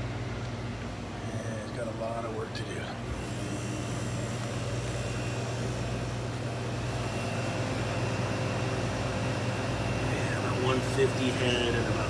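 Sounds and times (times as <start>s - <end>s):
refrigeration compressor humming: 0.0s - 12.0s.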